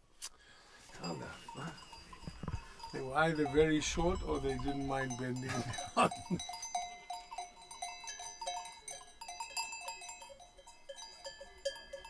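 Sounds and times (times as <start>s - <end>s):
livestock bells clinking: 0.8s - 12.0s.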